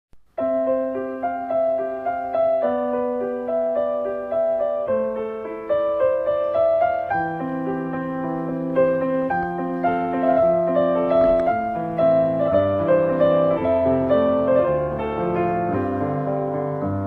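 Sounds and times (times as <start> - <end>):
gentle piano music: 0.3 - 17.0.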